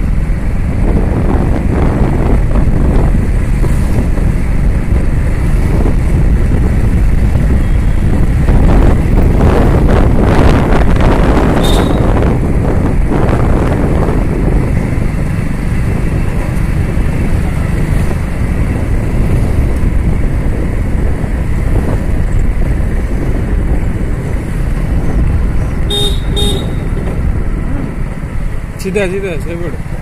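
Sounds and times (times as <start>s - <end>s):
motorcycle engine and road noise: 0.0s - 30.0s
wind rush: 0.0s - 30.0s.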